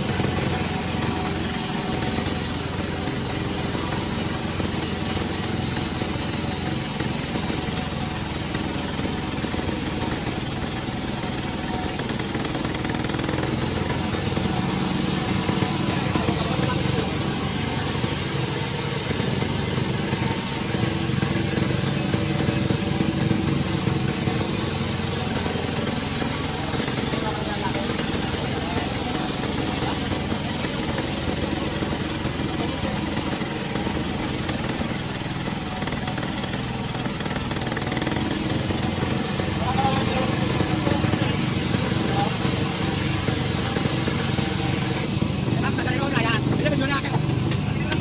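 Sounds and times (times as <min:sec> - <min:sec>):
sawmill machinery drone: 0:00.0 - 0:48.0.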